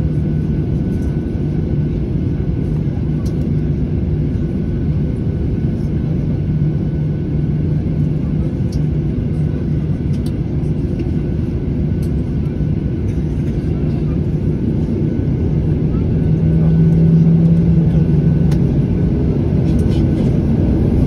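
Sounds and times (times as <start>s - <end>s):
jet engines in cabin: 0.0s - 21.0s.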